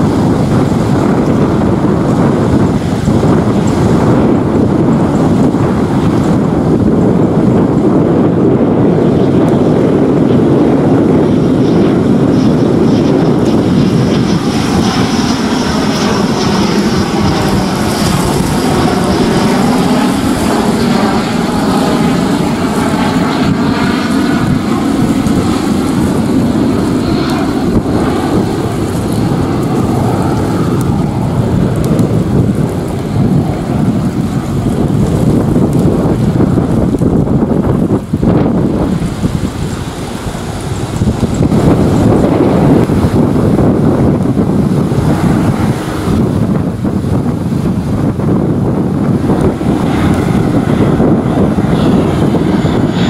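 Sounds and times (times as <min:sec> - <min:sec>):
high jet whine: 0:00.0 - 0:53.0
jet fighter passing: 0:00.0 - 0:53.0.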